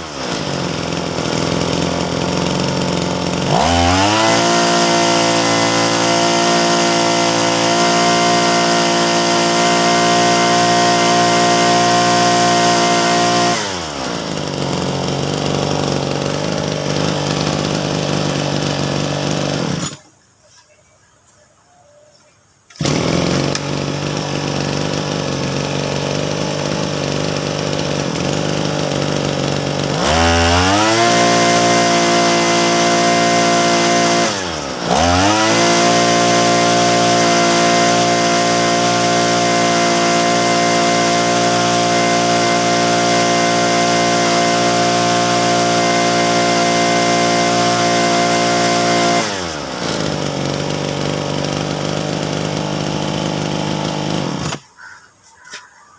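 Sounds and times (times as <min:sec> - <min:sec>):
two-stroke brush-cutter engine revving: 0:00.0 - 0:20.1, 0:22.7 - 0:54.6.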